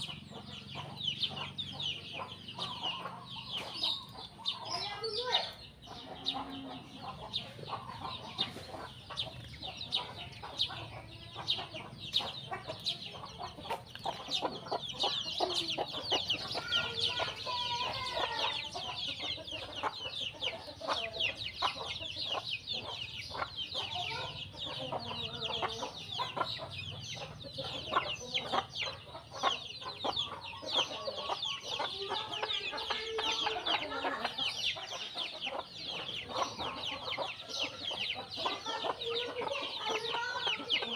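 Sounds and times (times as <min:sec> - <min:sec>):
chickens clucking: 0:00.0 - 0:40.9
sparrows chirping: 0:00.0 - 0:40.9.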